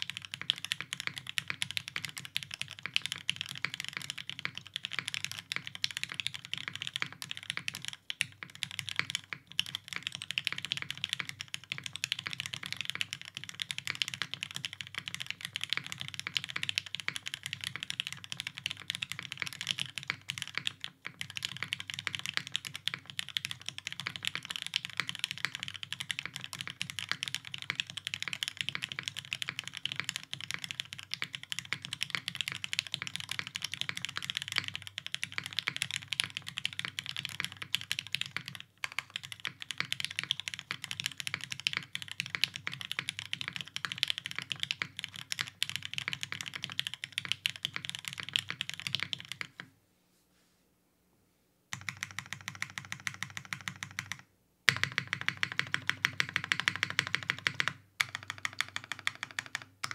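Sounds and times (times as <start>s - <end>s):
mechanical keyboard typing: 0.0s - 49.7s, 51.7s - 59.9s.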